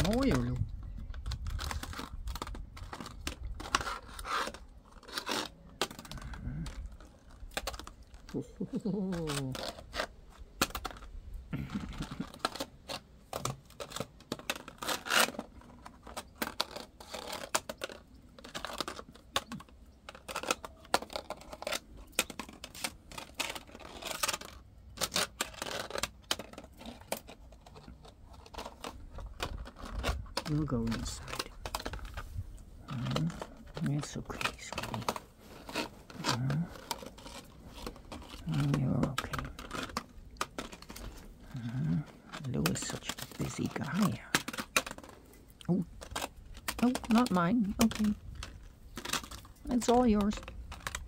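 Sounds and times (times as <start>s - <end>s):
plastic pot scraping on stone: 0.0s - 51.0s.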